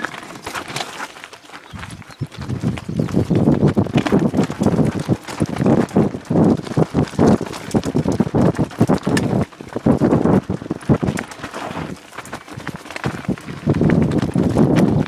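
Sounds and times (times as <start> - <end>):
bike rattling over bumps: 0.0 - 15.0.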